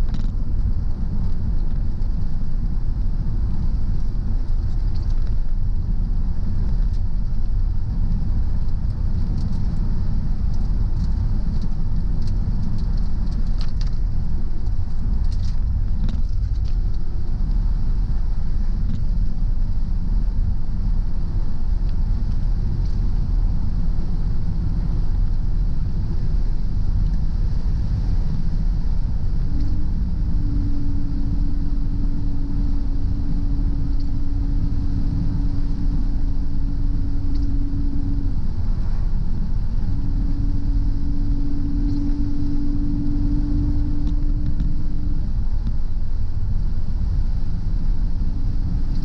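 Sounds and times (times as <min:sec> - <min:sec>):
car road and engine rumble: 0:00.0 - 0:49.0
droning hum: 0:00.0 - 0:49.0.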